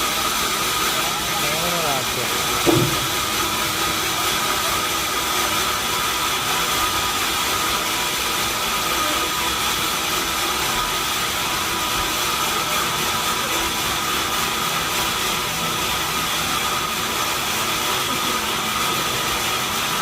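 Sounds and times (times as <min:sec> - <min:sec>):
sawmill machinery hiss and whine: 0:00.0 - 0:20.0.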